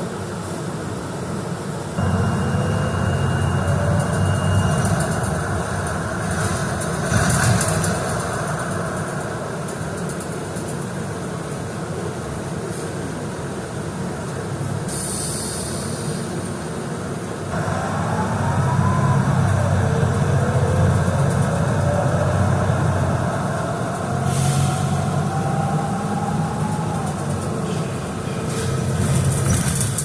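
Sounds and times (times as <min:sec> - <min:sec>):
transit vehicle rumble: 0:00.0 - 0:30.0.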